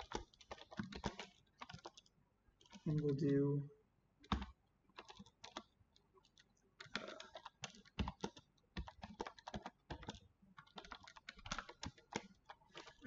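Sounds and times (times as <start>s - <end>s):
computer keyboard typing: 0.0s - 3.5s, 4.2s - 13.0s.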